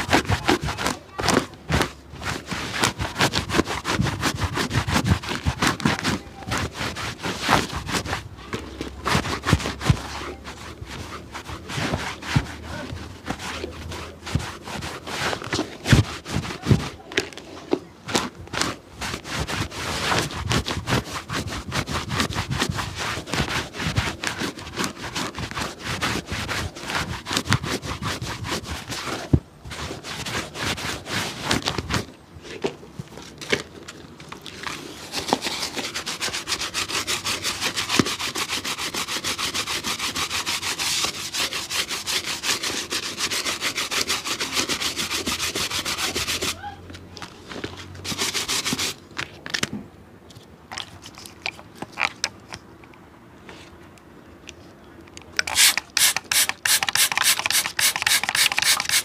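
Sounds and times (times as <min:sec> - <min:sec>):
scraping and rubbing on shoe: 0:00.0 - 0:49.7, 0:50.3 - 0:52.8, 0:53.4 - 0:53.8, 0:55.4 - 0:59.0.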